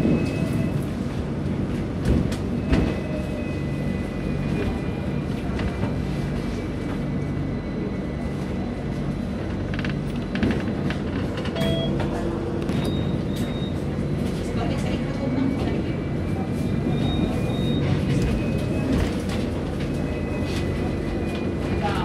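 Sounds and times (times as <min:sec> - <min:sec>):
tram passing alongside: 0:00.0 - 0:22.0
tram rumbling on rails: 0:00.0 - 0:22.0.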